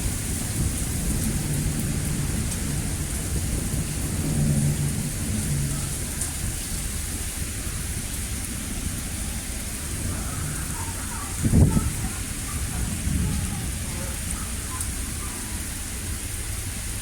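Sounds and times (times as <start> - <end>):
heavy rain falling: 0.0 - 17.0
low rumble of thunder: 0.0 - 17.0.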